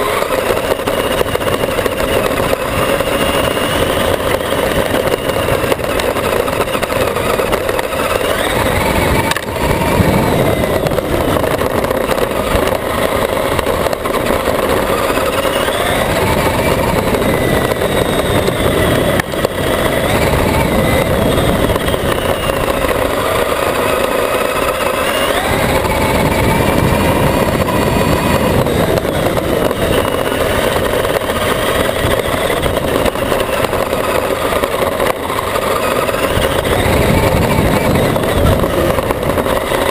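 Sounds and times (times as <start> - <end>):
electric toy truck motors whining: 0.0 - 39.9
rough rumbling noise: 0.0 - 39.9.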